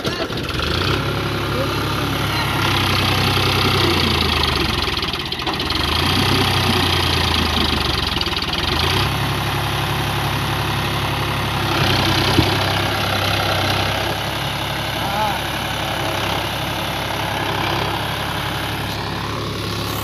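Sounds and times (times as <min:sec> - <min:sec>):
tractor diesel engine straining: 0:00.0 - 0:20.0.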